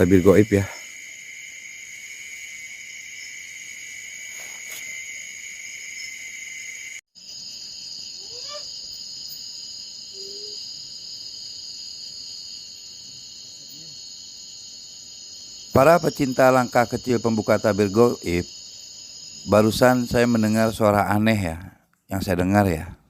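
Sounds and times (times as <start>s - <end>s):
cicadas shrilling: 0.0s - 21.3s.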